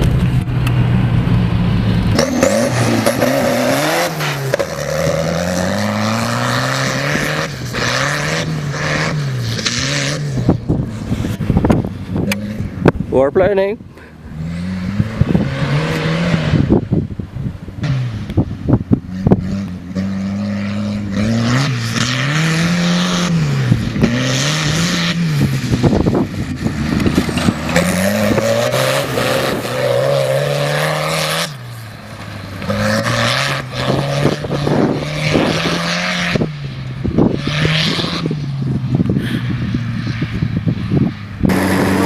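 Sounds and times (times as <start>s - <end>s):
tractor engine revving: 0.0s - 17.0s, 19.0s - 42.0s.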